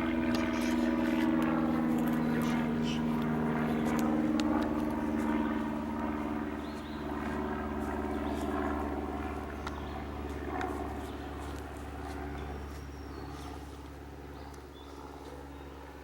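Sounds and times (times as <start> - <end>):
passing vehicle engine droning: 0.0 - 15.7.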